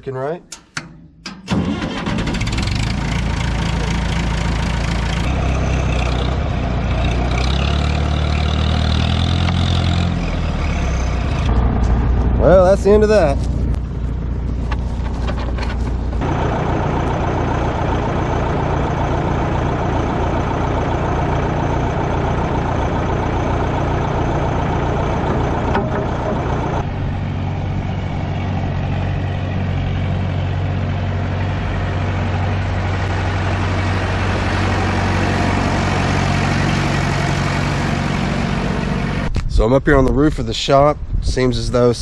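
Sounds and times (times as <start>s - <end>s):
tractor engine running: 0.0s - 39.5s.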